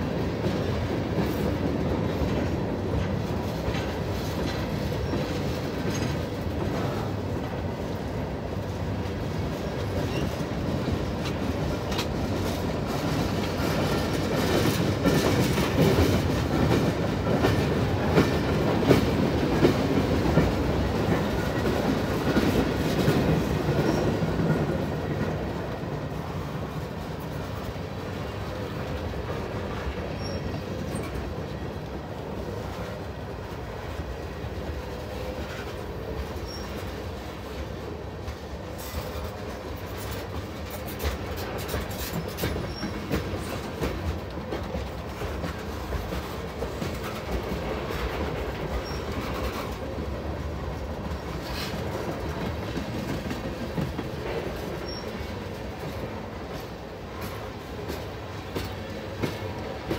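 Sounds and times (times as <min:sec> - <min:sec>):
freight train rumbling past: 0:00.0 - 0:59.9
wheels clacking on rails: 0:00.0 - 0:59.9.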